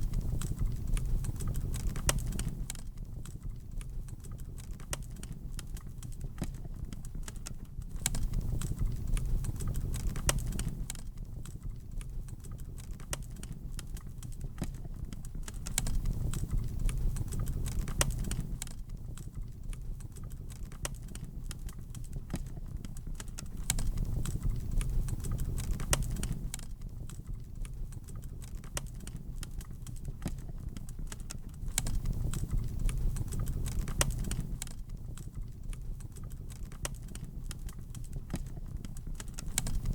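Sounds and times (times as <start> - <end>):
low rumble of fire: 0.0 - 39.9
wood fire crackling and popping: 0.0 - 39.9.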